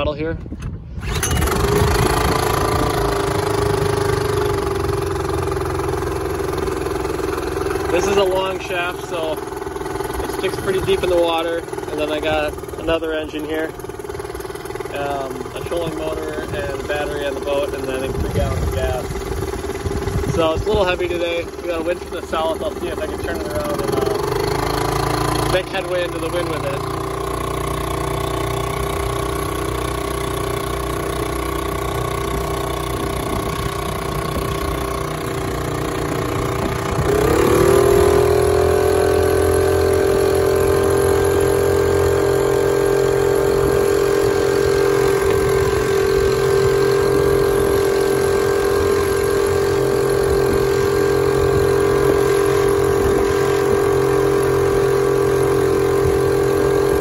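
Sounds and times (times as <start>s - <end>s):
outboard engine running: 0.0s - 57.0s.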